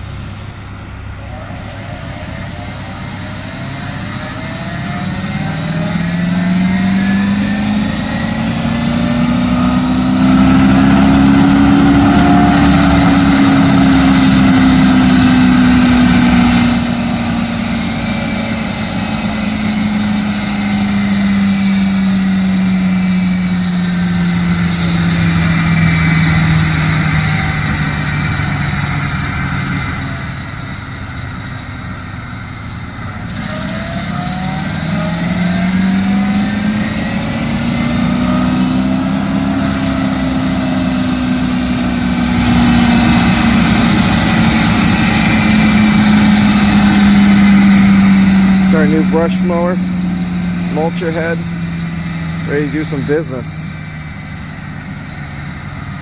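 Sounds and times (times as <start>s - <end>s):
mini excavator running: 0.0s - 56.0s
mulcher rotor hum rising in pitch: 0.0s - 56.0s.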